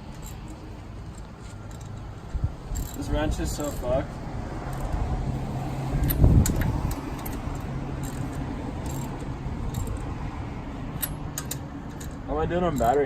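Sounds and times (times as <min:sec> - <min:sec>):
metal tools clinking on car parts: 0:00.0 - 0:04.1, 0:04.7 - 0:05.0, 0:06.0 - 0:10.1, 0:11.0 - 0:13.0.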